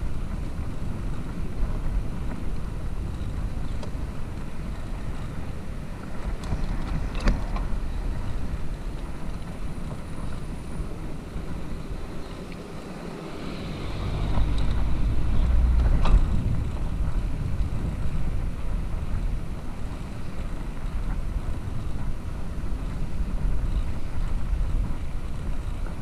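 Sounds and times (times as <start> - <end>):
tyres rumbling on asphalt: 0.0 - 26.0
wind buffeting microphone: 0.0 - 26.0.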